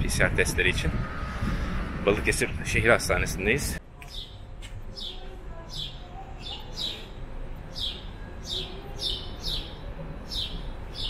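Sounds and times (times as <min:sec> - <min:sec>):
steady low background noise: 0:00.0 - 0:11.0.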